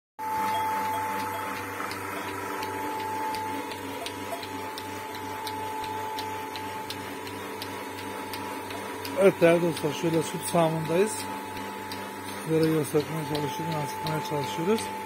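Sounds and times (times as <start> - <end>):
pulsator clicking: 0.2 - 15.0
vacuum pump motor humming: 0.2 - 15.0.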